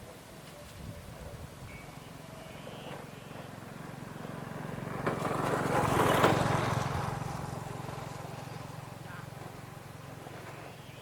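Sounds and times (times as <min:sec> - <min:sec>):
small engine passing by: 0:01.8 - 0:11.0.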